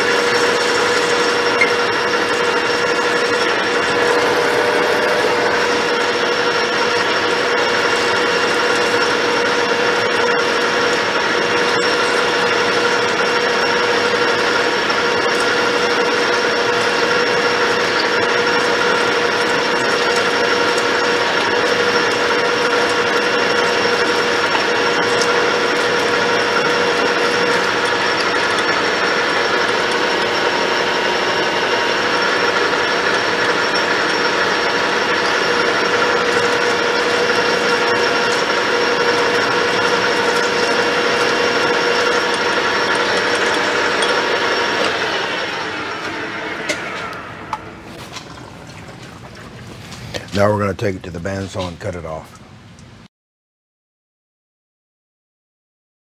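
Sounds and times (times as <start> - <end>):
lathe drilling metal with whine: 0.0 - 49.4.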